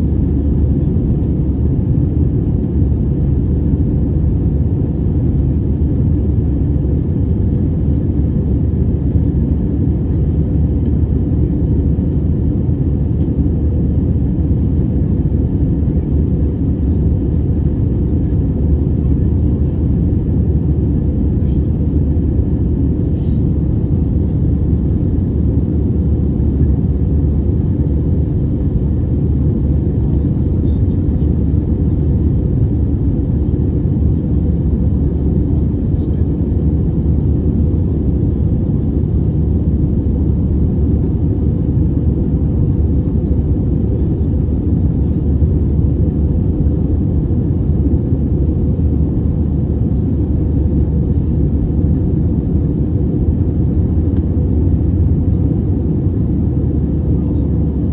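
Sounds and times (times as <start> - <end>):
aircraft cabin engine roar: 0.0 - 57.9.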